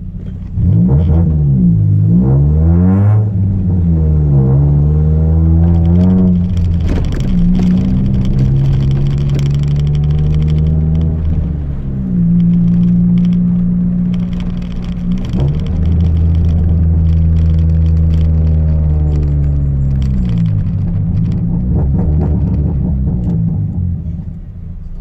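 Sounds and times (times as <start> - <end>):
car engine running: 3.4 - 25.0.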